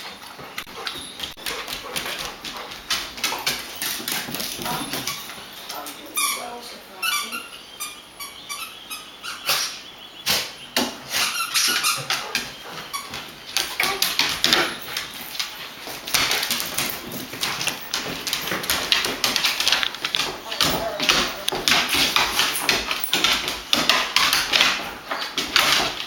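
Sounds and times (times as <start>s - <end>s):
dogs play growling and yipping: 0.0s - 6.4s, 7.3s - 26.0s
dogs scuffling: 0.0s - 26.0s
claws clicking on hardwood floor: 0.2s - 6.4s, 10.8s - 26.0s.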